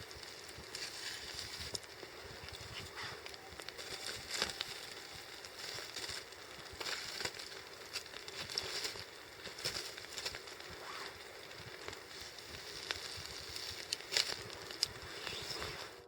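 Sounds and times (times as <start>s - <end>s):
campfire crackling: 0.0s - 16.0s
faint steady hiss: 0.0s - 16.0s.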